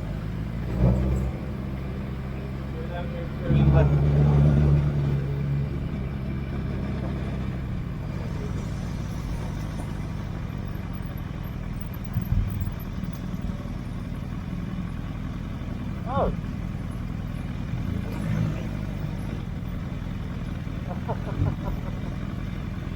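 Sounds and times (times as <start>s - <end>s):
road and wind noise: 0.0s - 22.9s
motorcycle engine running: 1.3s - 22.9s.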